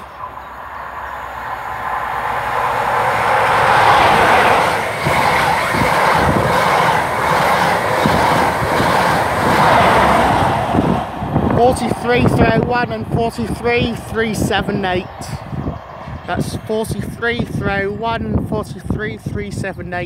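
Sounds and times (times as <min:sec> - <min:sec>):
wheels rushing on rail: 0:00.0 - 0:17.6
train passing at speed: 0:00.0 - 0:18.0
diesel engine noise: 0:00.0 - 0:19.3.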